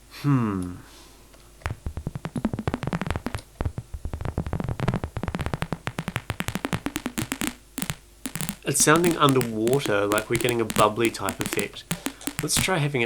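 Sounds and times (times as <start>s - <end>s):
synthesized bubbly clicks and pops: 1.7s - 13.0s.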